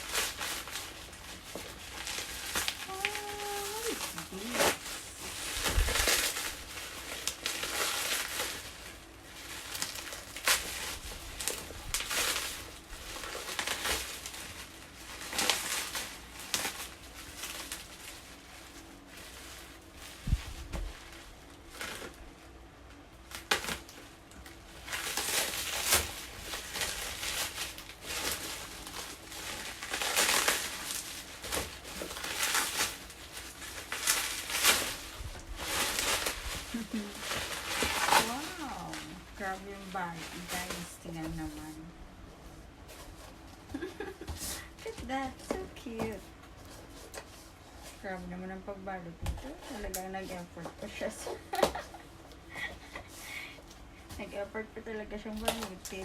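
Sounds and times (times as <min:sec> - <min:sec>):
parcel wrapping crinkling and tearing: 0:00.0 - 0:56.0.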